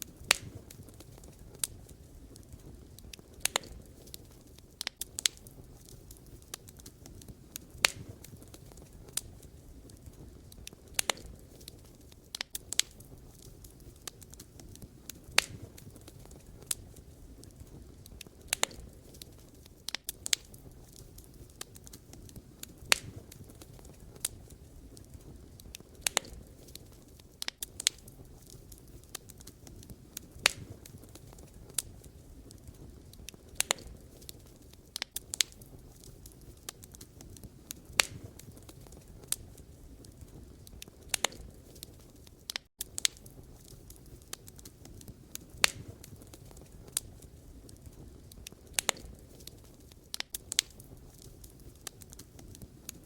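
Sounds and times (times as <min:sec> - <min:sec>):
campfire crackling and popping: 0:00.0 - 0:53.0
flames rumbling and hissing: 0:00.0 - 0:53.0.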